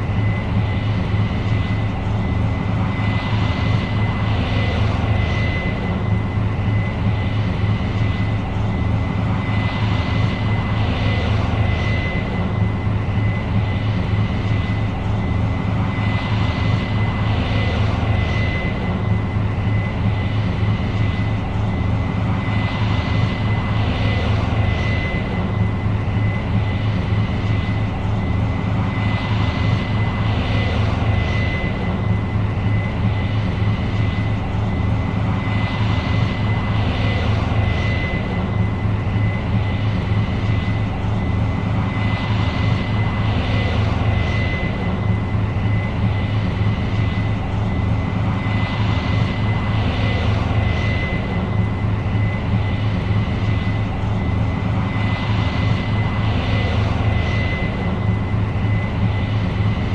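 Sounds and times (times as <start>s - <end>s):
deep engine drone: 0.0s - 59.9s
thin high whine: 0.0s - 59.9s.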